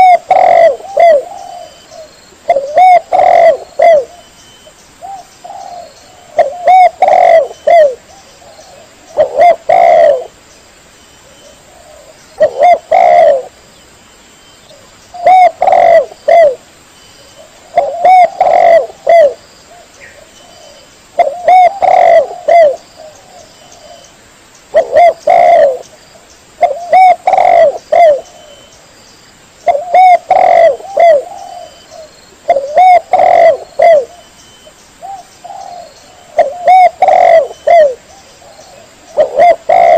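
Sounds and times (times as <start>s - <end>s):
dove cooing: 0.0s - 4.3s, 5.0s - 10.4s, 11.2s - 13.6s, 14.7s - 16.6s, 17.3s - 24.1s, 24.7s - 26.0s, 26.6s - 28.7s, 29.6s - 39.9s.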